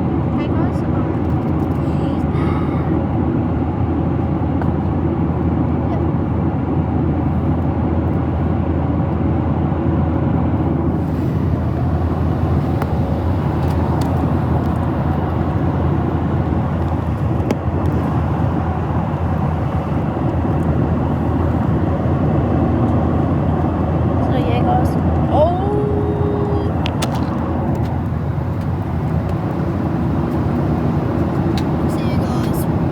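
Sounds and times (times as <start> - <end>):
airplane cabin engine rumble: 0.0 - 32.9.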